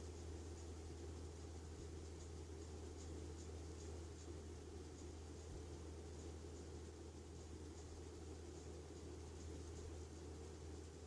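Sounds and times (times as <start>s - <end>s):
faint low hum with hiss: 0.0s - 11.0s.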